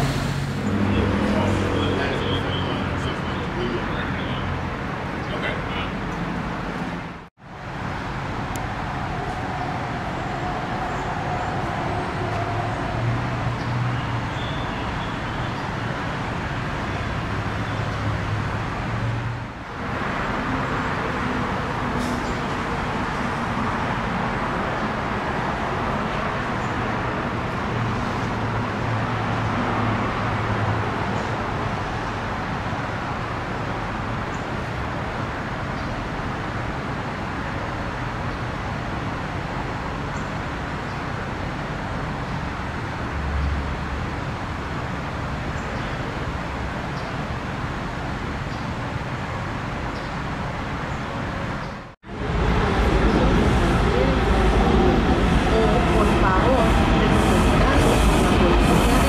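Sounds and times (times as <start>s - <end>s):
road traffic rumble and hiss: 0.0s - 59.0s.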